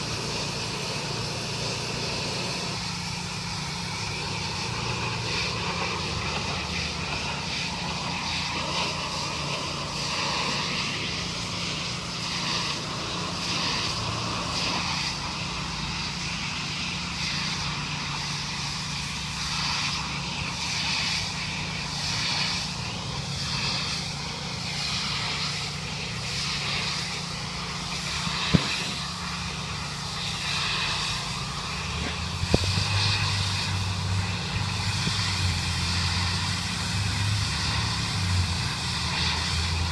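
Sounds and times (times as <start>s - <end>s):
hiss of spray: 0.0s - 39.9s
pressure washer engine hum: 0.0s - 39.9s.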